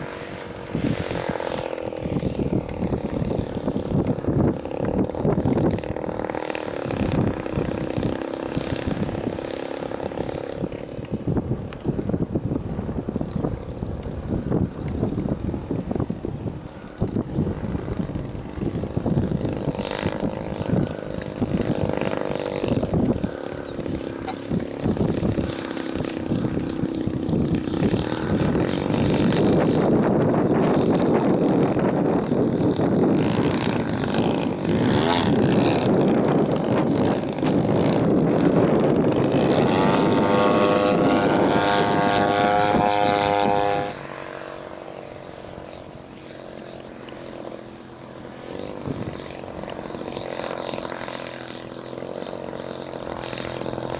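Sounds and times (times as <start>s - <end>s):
model airplane engine and propeller: 0.0s - 53.9s
wind buffeting microphone: 0.0s - 53.9s.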